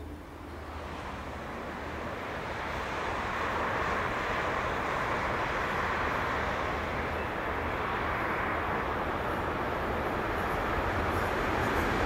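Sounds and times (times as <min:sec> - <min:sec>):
train rolling noise: 0:00.0 - 0:12.0.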